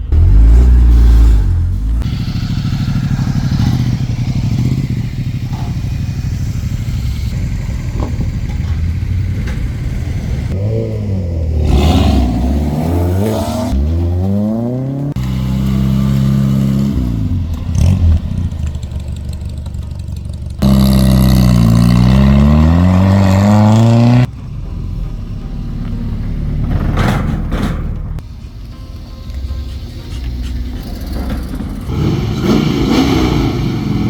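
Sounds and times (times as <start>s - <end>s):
car engines revving: 0.0s - 28.4s, 29.3s - 34.0s.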